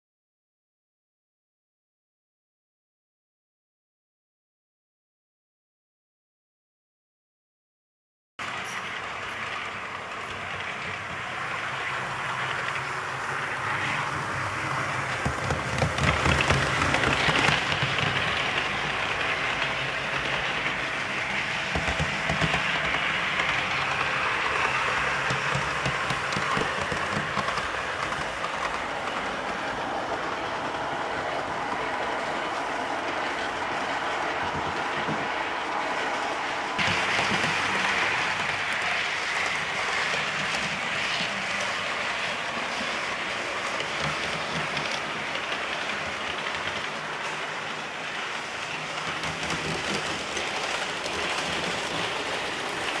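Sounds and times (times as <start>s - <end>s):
model trains whirring on track: 8.4s - 53.0s.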